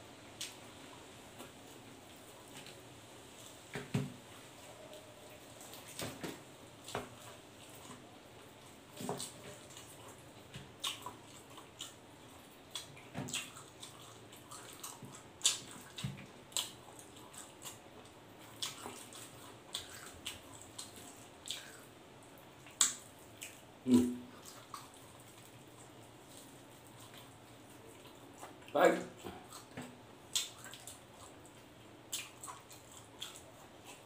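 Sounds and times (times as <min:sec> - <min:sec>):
man chewing with wet smacks: 0:00.3 - 0:34.0.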